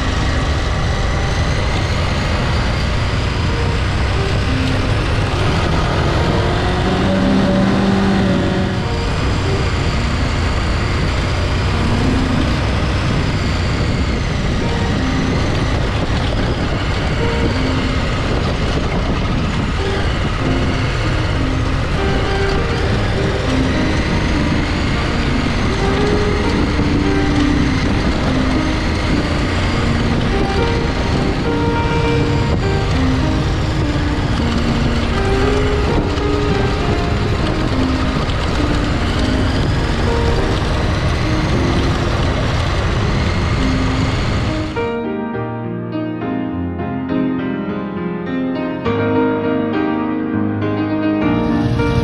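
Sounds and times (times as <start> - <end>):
motorcycle engine running: 0.0 - 44.8
wind on microphone: 0.0 - 44.9.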